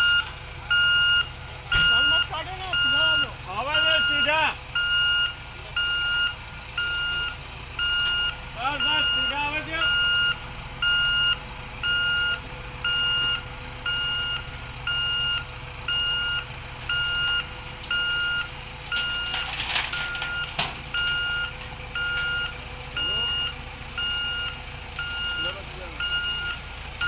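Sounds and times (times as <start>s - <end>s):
reversing alarm beeping: 0.0s - 26.6s
roller engine running: 0.0s - 27.0s.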